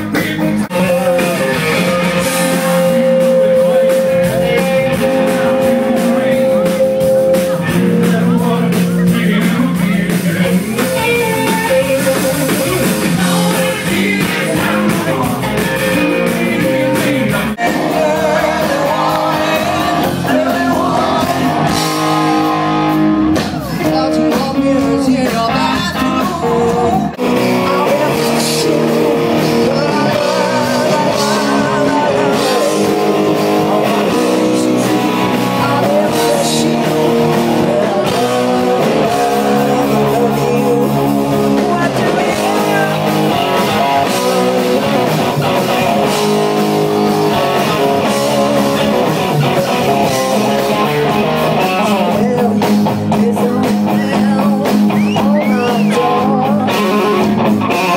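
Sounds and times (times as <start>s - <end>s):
drum kit: 0.0s - 57.9s
electric guitars: 0.0s - 57.9s.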